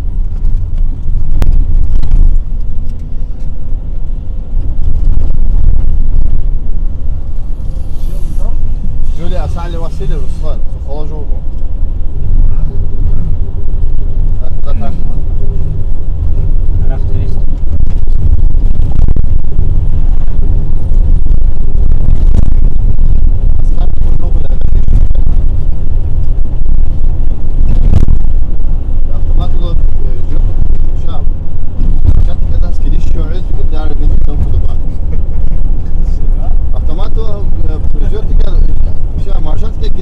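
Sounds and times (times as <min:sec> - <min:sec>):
vehicle rumble from inside cabin: 0:00.0 - 0:40.0.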